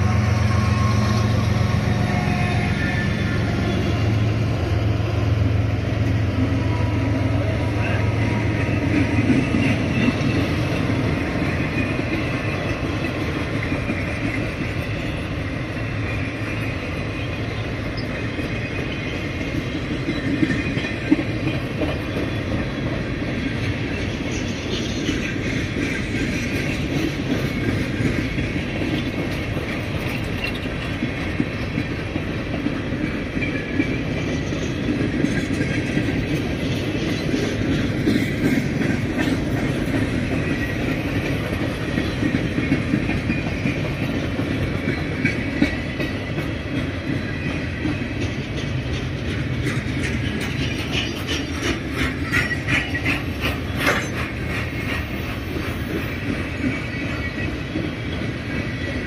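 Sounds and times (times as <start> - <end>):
train wheels rumbling on rails: 0.0 - 59.0
wheels clicking over rail joints: 0.0 - 59.0.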